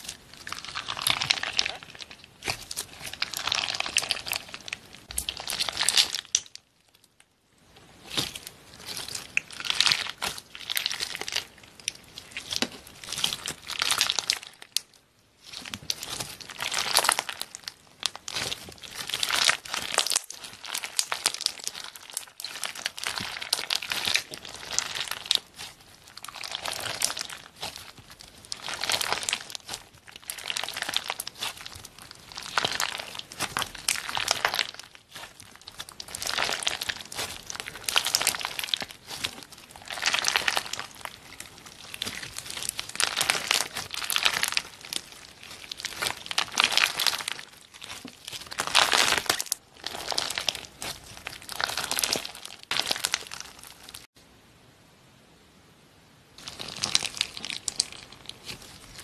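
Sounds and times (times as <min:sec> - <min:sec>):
slime squishing by hand: 0:00.0 - 0:54.1, 0:56.4 - 0:59.0.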